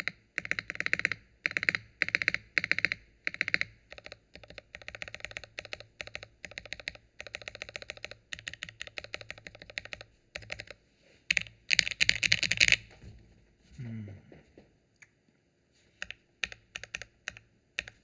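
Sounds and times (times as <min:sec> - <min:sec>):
mechanical keyboard typing: 0:00.0 - 0:12.8, 0:16.0 - 0:18.0.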